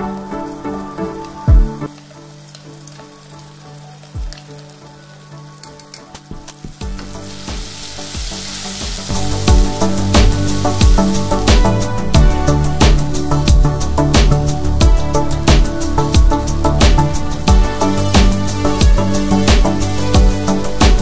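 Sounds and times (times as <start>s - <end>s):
spice paste sizzling in oil: 1.9s - 21.0s.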